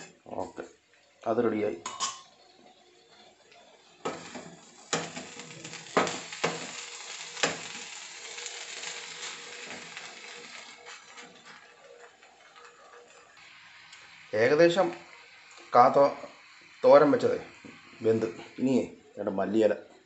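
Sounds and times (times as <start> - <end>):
food sizzling in a pan: 1.6 - 19.2.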